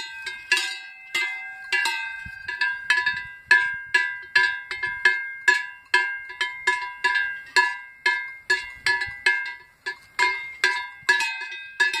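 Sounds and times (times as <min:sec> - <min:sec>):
cow bell clanging: 0:00.0 - 0:12.0.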